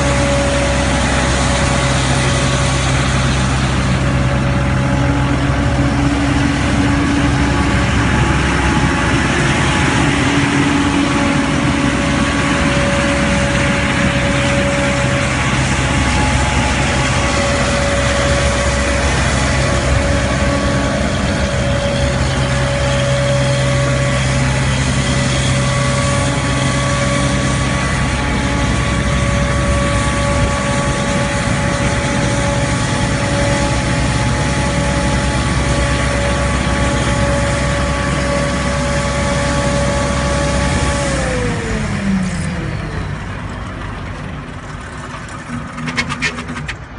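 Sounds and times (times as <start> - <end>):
street sweeper engine drone: 0.0 - 46.9
whining tones: 0.0 - 46.9.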